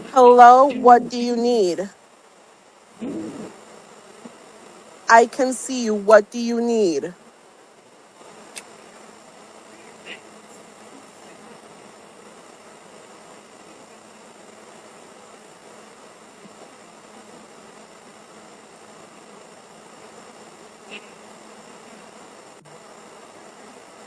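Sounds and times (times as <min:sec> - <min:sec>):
microphone hiss: 0:00.0 - 0:24.0.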